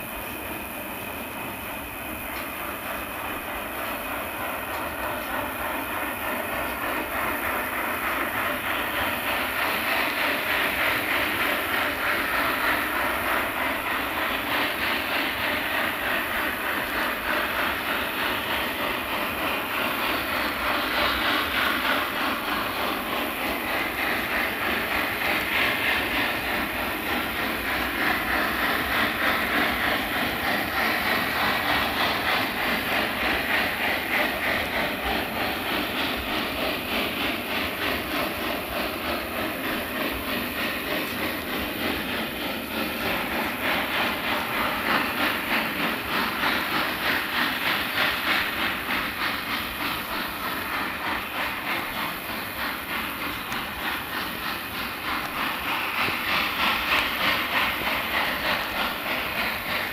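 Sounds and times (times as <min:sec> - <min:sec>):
rolling train cars: 0:00.0 - 0:59.9
steam locomotive roaring: 0:00.0 - 0:59.9.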